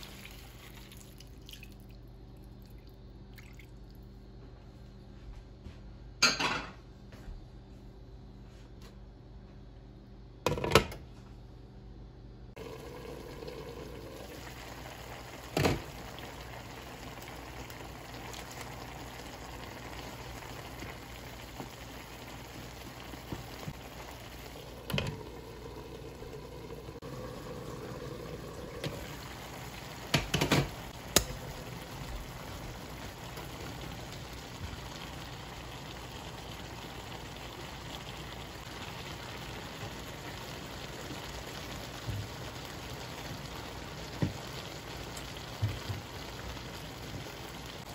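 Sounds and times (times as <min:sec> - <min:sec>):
food simmering in pan: 0:00.0 - 0:04.1, 0:12.6 - 0:47.9.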